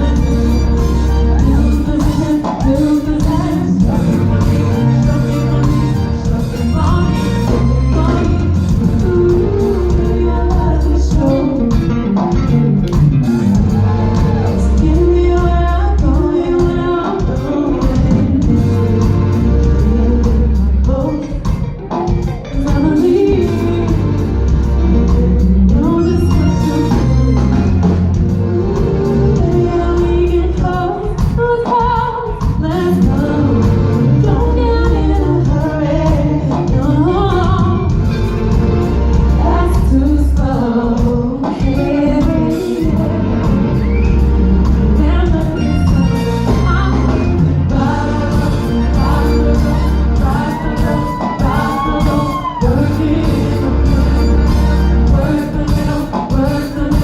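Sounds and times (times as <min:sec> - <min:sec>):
low bass notes: 0:00.0 - 0:02.2, 0:03.2 - 0:16.7, 0:17.9 - 0:21.1, 0:22.8 - 0:30.8, 0:32.8 - 0:40.6, 0:42.8 - 0:55.7
woman singing: 0:00.0 - 0:27.8, 0:28.4 - 0:38.1, 0:39.2 - 0:57.0
drum beat: 0:00.0 - 0:57.0
live band playing: 0:00.0 - 0:57.0.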